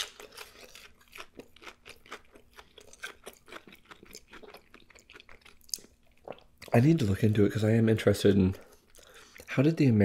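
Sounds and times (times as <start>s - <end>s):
chewing crispy food: 0.0s - 7.4s, 8.5s - 9.5s.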